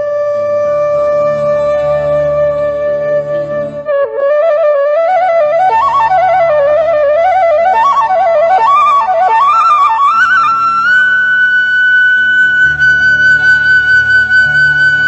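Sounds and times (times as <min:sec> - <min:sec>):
bamboo flute melody: 0:00.0 - 0:15.0
low sustained accompaniment: 0:00.0 - 0:15.0.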